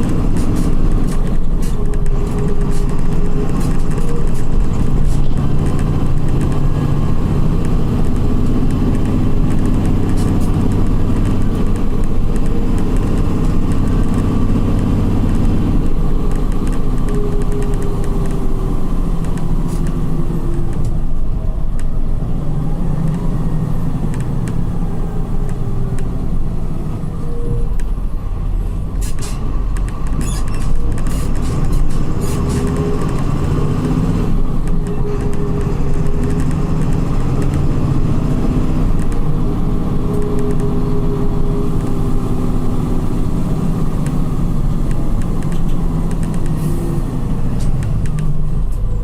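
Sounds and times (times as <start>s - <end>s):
bus diesel engine pulling: 0.0s - 49.0s.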